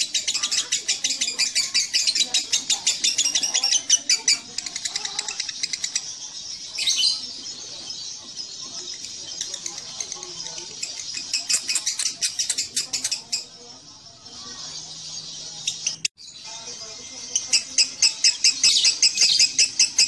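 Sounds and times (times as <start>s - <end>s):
lovebird high-pitched chatter: 0.0s - 20.0s.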